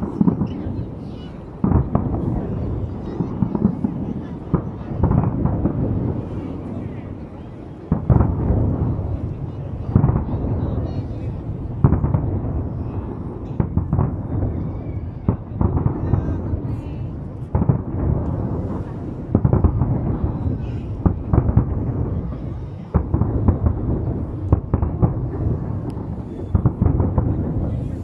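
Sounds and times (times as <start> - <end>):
continuous low rumble: 0.0 - 28.0
fireworks bangs and booms: 0.0 - 28.0.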